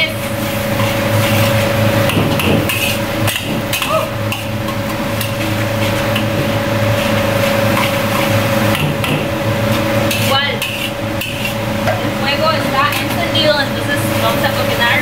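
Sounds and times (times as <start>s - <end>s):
mechanical hum: 0.0s - 15.0s
metal spatula scraping wok: 0.2s - 15.0s.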